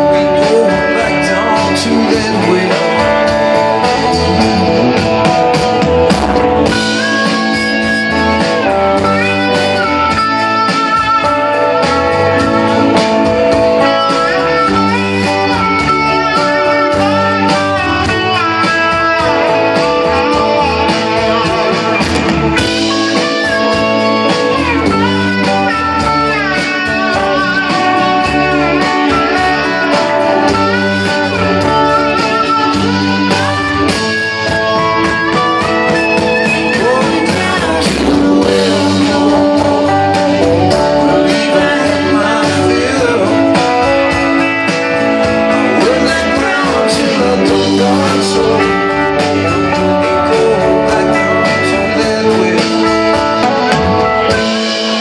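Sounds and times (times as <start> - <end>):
live rock band: 0.0 - 55.0
sliding bending guitar line: 0.0 - 55.0.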